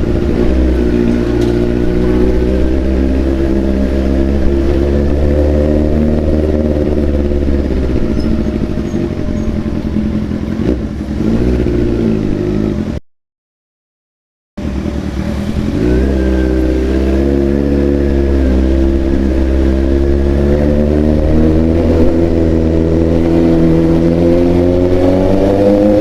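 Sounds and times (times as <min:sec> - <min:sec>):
motorcycle engine running loud: 0:00.0 - 0:13.0, 0:14.6 - 0:26.0.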